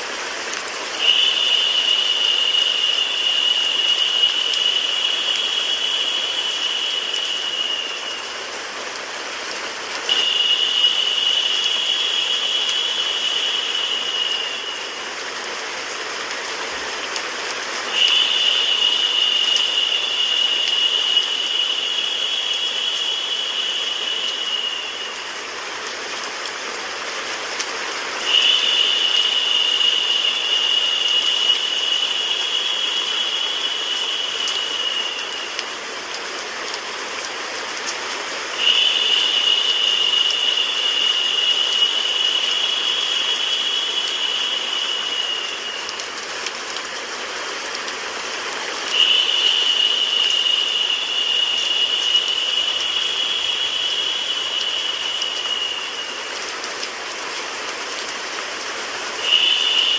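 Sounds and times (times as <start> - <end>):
white noise rain hiss: 0.0 - 59.9.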